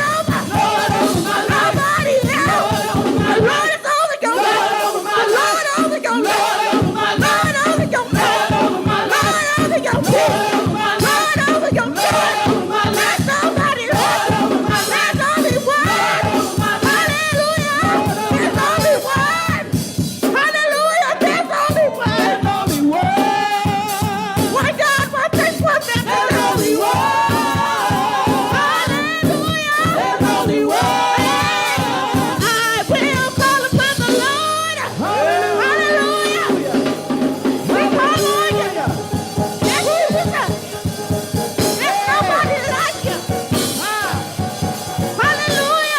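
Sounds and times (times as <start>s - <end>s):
band with driving beat: 0.0s - 45.9s
group of voices singing: 0.0s - 45.9s.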